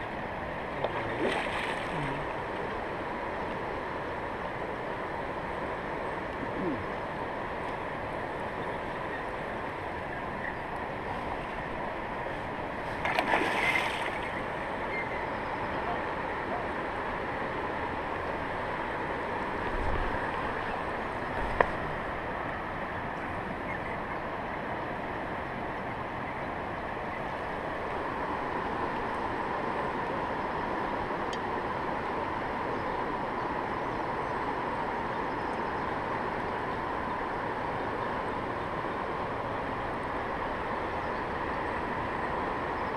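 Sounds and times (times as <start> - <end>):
rapids rushing water: 0.0 - 42.9.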